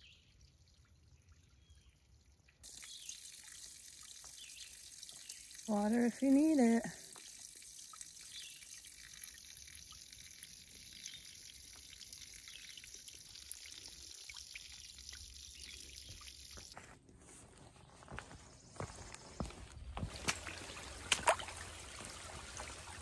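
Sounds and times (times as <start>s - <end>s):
water trickling and dripping: 0.0s - 16.8s, 20.0s - 23.0s.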